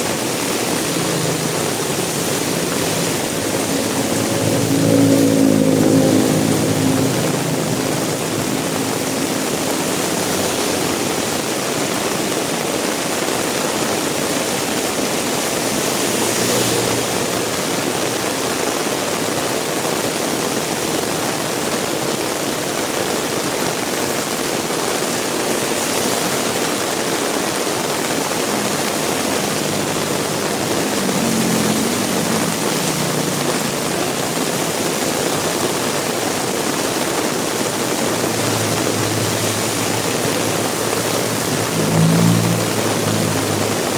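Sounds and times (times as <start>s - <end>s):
heavy rain pouring: 0.0s - 43.9s
low vehicle engine hum: 0.0s - 43.9s.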